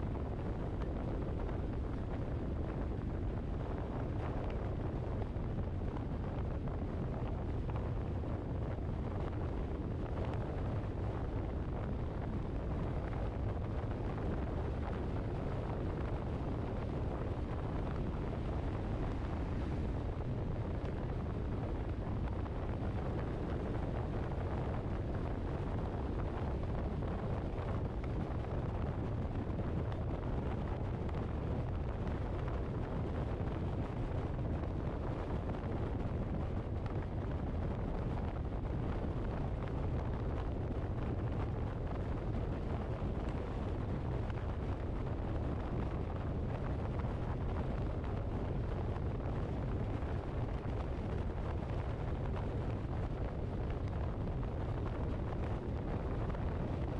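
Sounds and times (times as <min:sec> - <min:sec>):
car road and wind rumble: 0:00.0 - 0:56.9.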